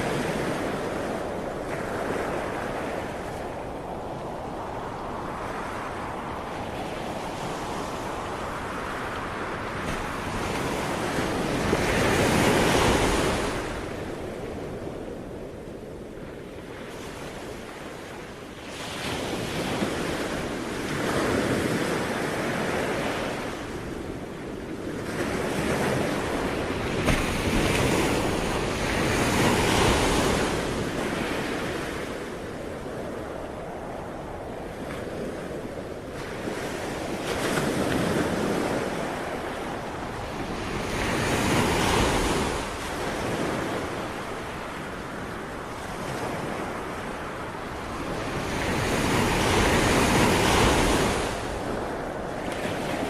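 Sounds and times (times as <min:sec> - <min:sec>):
sea waves breaking on shore: 0:00.0 - 0:53.0
wind: 0:00.0 - 0:53.0.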